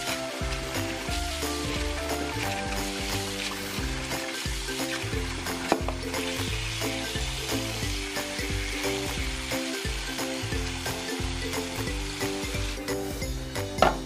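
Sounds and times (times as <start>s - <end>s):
water filling a pot: 0.0s - 13.1s
background music: 0.0s - 14.0s.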